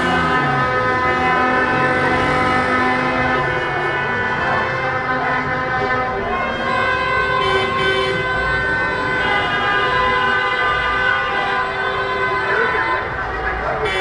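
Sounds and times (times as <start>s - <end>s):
car horns blaring: 0.0s - 14.0s.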